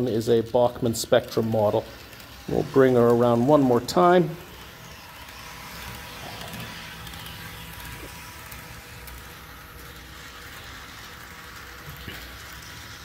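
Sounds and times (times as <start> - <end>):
small electric motor humming: 0.0 - 13.0.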